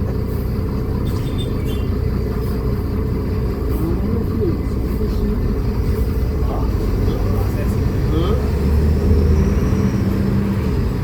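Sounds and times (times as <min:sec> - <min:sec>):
bus engine droning: 0:00.0 - 0:11.0.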